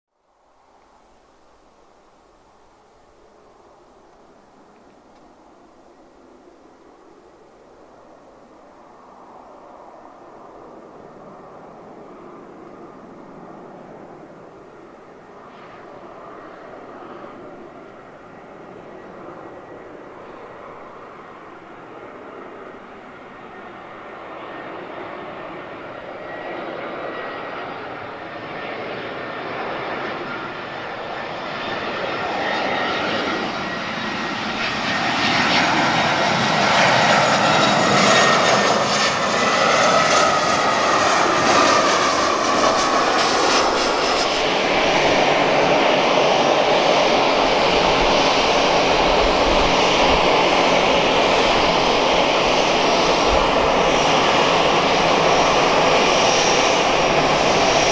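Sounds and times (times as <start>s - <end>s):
jet engines running: 3.1s - 57.9s.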